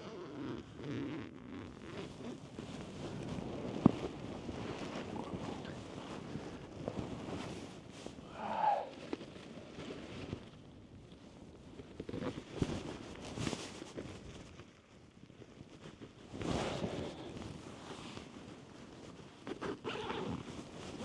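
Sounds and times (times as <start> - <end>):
tent fabric rustling: 0.1 - 21.0.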